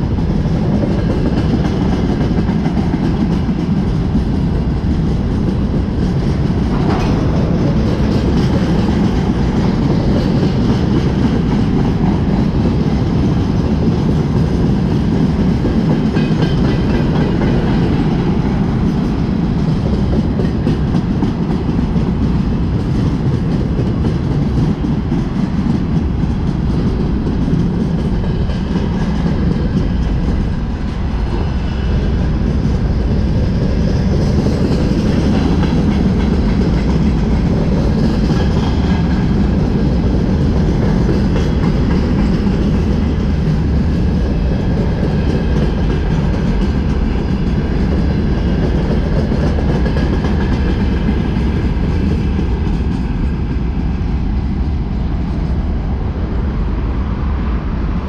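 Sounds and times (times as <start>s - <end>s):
wheels clacking over rail joints: 0.0s - 53.9s
freight train rolling past: 0.0s - 58.0s.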